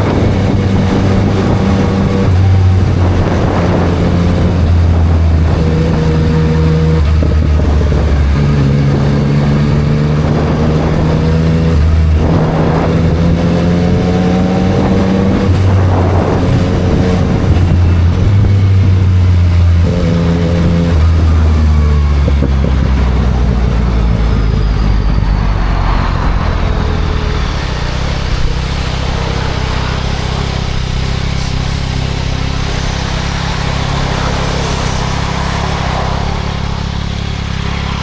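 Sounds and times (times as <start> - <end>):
motorcycle engine revving: 0.0 - 38.0
wind and road noise: 0.0 - 38.0.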